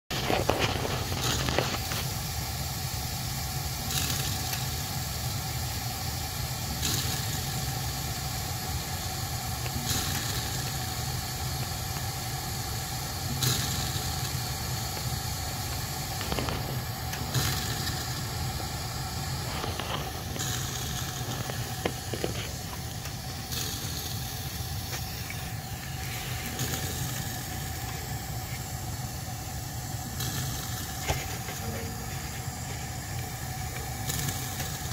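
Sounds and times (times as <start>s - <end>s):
gas burner rushing hiss: 0.0s - 34.9s
faint steady hum: 0.1s - 34.9s.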